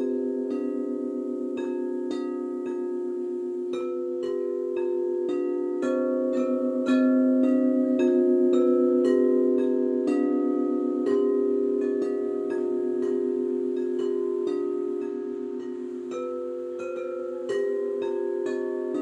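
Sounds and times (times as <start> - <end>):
singing bowls struck with mallets: 0.0 - 19.0.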